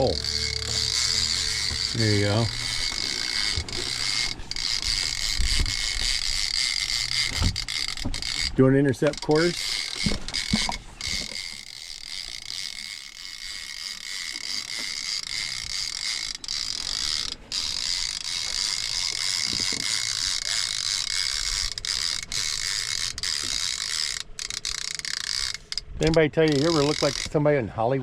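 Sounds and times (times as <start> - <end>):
fishing reel ratcheting whir: 0.0 - 27.6.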